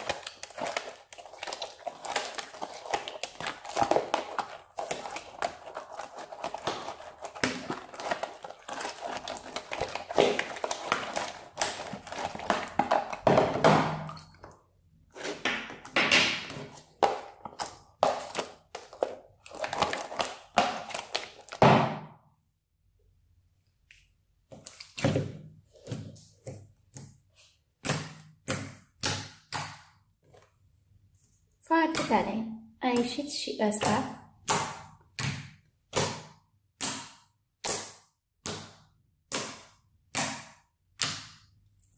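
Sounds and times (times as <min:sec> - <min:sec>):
slime squelching: 0:00.0 - 0:21.9, 0:23.8 - 0:30.1, 0:31.6 - 0:41.9.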